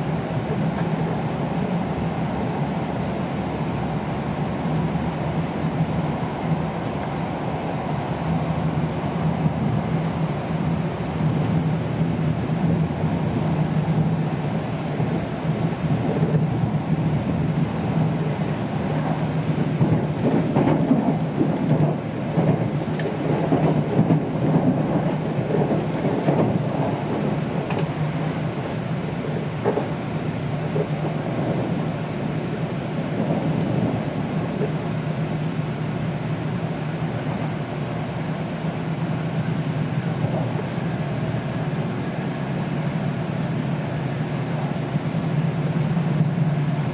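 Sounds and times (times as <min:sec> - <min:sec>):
constant hum: 0:00.0 - 0:46.9
train running rumble: 0:00.0 - 0:46.9.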